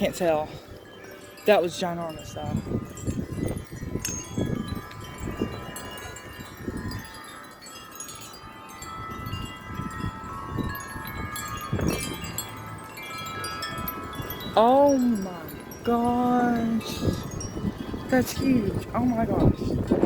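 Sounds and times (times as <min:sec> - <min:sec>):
wind chimes ringing: 0:00.0 - 0:20.0
wind rumble on microphone: 0:01.5 - 0:20.0.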